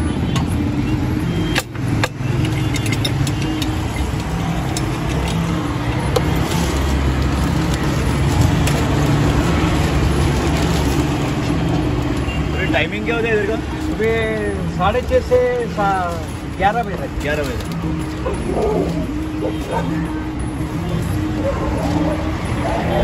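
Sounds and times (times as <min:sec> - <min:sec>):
road traffic hum: 0:00.0 - 0:23.0.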